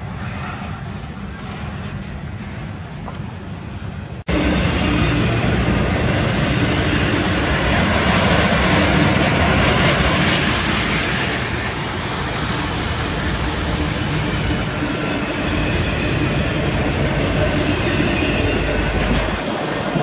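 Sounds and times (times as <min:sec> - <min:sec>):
steel wheels roaring on rail: 0:00.0 - 0:20.0.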